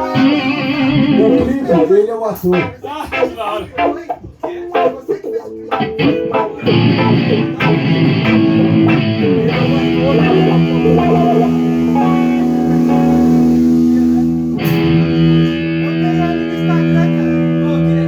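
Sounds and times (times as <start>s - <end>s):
electric guitar playing: 0.0s - 18.0s.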